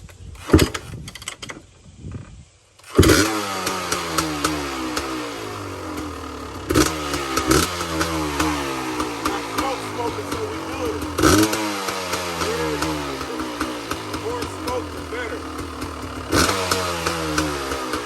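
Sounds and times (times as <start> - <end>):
kick starter clatter: 0.3 - 1.7, 2.8 - 18.0
two-stroke motorcycle engine revving: 2.8 - 18.0.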